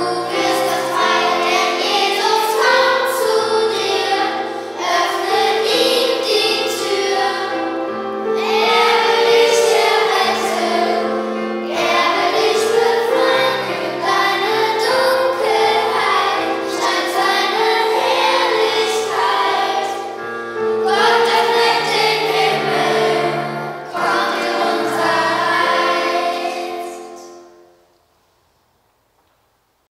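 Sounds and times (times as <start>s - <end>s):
children's choir singing: 0.0s - 27.8s
piano accompaniment: 0.0s - 27.9s.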